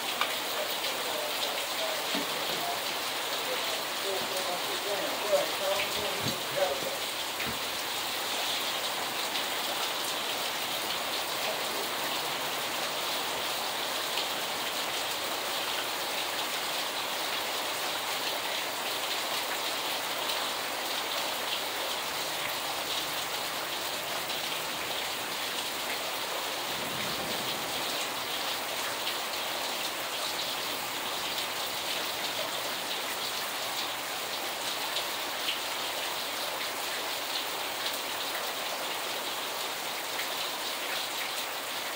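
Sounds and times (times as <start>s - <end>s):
heavy rain on standing water: 0.0s - 41.9s.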